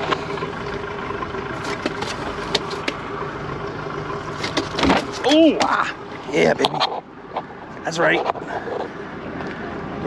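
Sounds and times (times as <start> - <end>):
outboard boat motor idling: 0.0 - 10.0.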